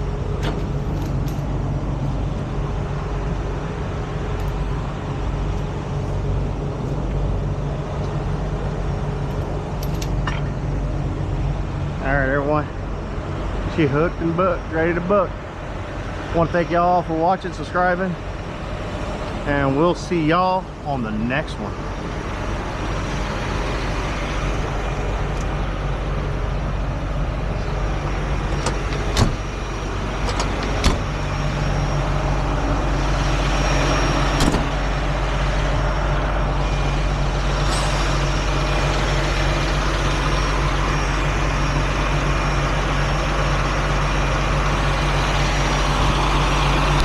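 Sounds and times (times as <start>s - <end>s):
diesel engine running: 0.0s - 47.0s
road noise: 0.0s - 47.0s.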